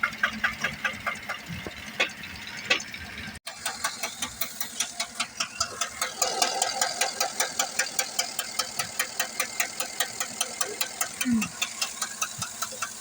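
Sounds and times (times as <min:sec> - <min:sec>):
engine running with ticking knock: 0:00.0 - 0:13.0.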